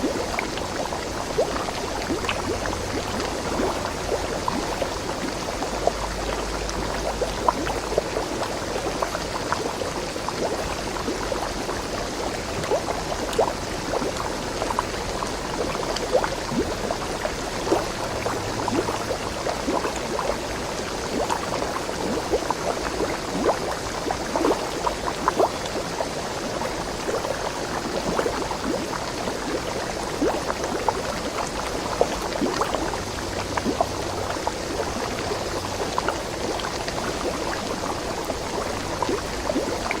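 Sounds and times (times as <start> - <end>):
small water splashes: 0.0 - 40.0
stream water gurgling: 0.0 - 40.0.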